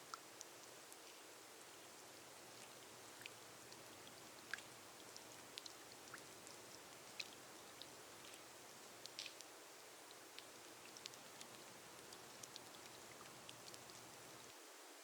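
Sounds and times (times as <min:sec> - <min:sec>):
gentle rain on a glass roof: 0:00.0 - 0:15.0
single raindrops ticking: 0:01.8 - 0:14.6.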